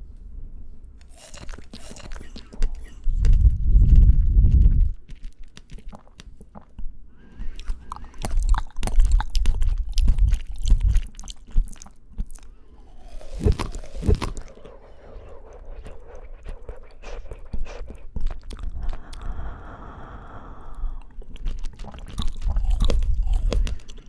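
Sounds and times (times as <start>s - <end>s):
mouth clicks: 1.0s - 4.8s, 5.5s - 24.0s
chewing fresh fruit: 1.0s - 19.5s, 20.8s - 24.0s.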